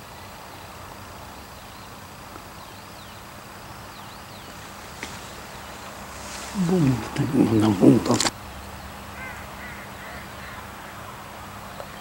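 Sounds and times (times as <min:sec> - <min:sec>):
low outdoor hiss: 0:00.0 - 0:12.0.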